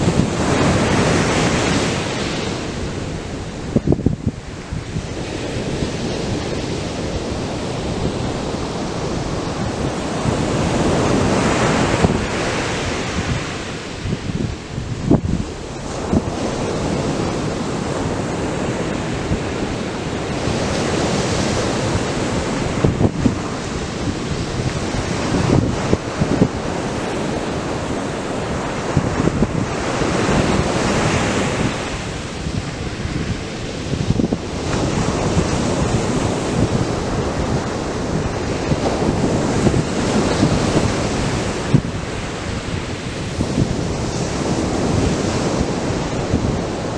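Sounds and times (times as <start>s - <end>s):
surf breaking on beach: 0.0s - 46.9s
wind buffeting microphone: 0.0s - 46.9s.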